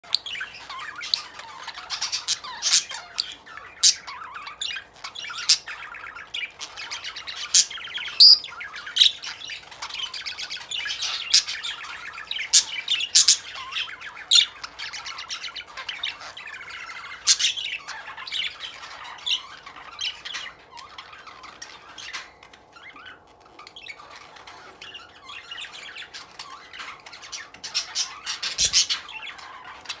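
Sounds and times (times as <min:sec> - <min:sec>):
budgerigars chattering and chirping: 0:00.0 - 0:30.0.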